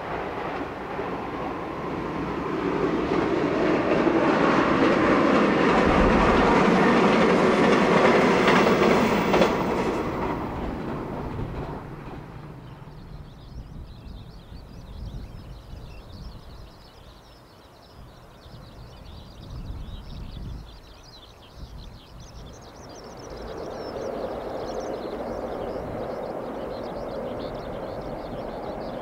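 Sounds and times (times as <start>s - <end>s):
birds chirping: 0.0s - 29.0s
wind rumble: 0.0s - 29.0s.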